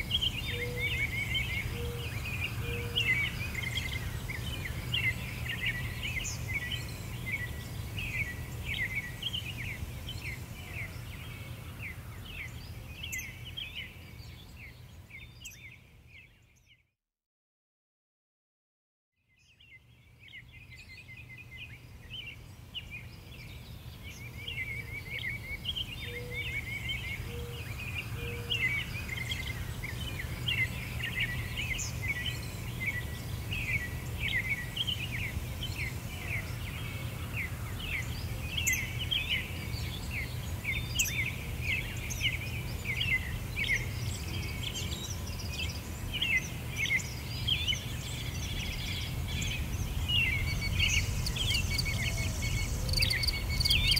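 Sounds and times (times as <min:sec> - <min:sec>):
small birds chirping: 0:00.0 - 0:16.9, 0:19.3 - 0:53.9.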